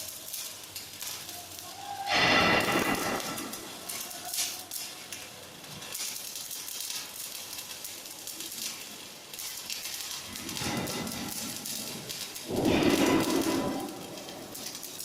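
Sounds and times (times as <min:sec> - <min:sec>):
arc welding crackling: 0:00.0 - 0:15.0.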